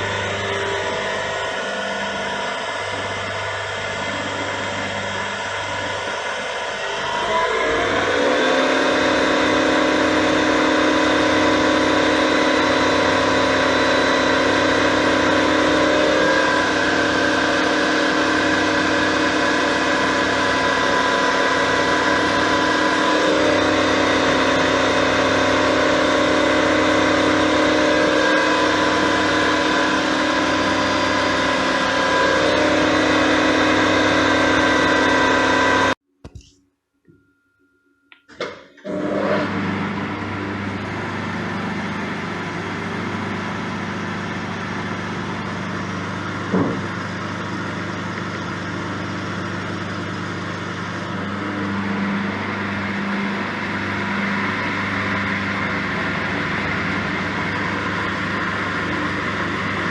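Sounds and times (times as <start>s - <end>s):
milling machine whining: 0.0s - 36.0s, 38.3s - 59.9s.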